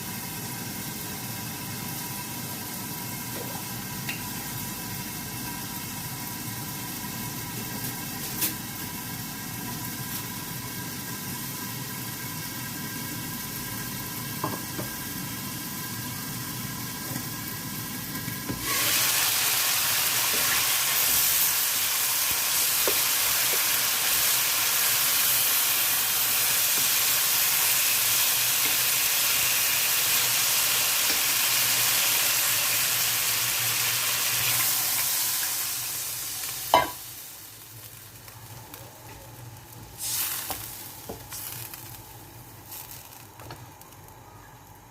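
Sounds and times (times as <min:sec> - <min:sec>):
food sizzling in a hot pan: 0:00.0 - 0:44.1.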